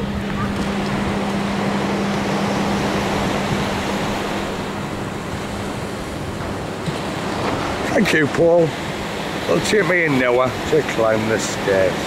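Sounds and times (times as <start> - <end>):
steady low hum: 0.0 - 12.0
waves on shingle beach: 0.3 - 12.0.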